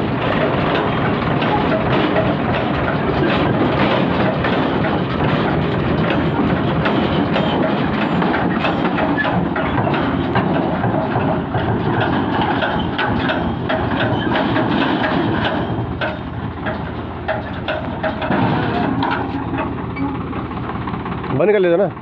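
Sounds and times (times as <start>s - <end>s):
loose metal clatter and rattle: 0.0s - 21.7s
diesel tractor engine running: 0.0s - 22.0s.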